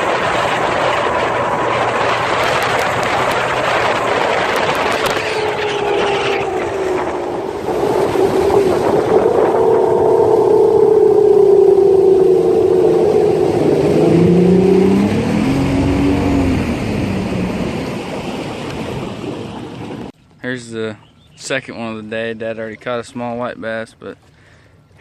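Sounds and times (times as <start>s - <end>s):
outboard motor running: 0.0s - 20.2s.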